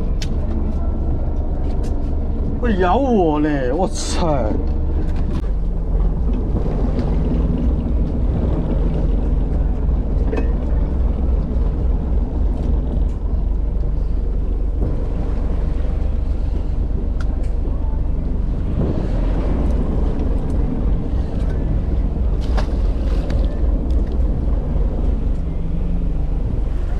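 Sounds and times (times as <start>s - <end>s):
boat engine humming: 0.0s - 26.9s
water noise: 0.0s - 26.9s
wind noise: 4.6s - 26.9s.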